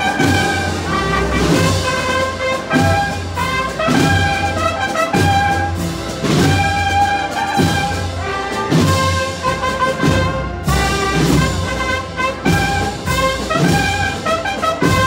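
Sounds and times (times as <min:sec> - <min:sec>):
brass melody: 0:00.0 - 0:15.0
low drum beats: 0:00.0 - 0:15.0.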